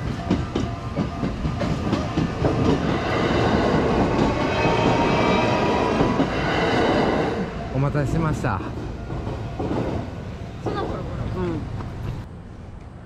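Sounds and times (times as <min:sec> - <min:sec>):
train wheels clacking on rail joints: 0:00.0 - 0:07.2, 0:08.2 - 0:12.2
train rumble: 0:00.0 - 0:13.0.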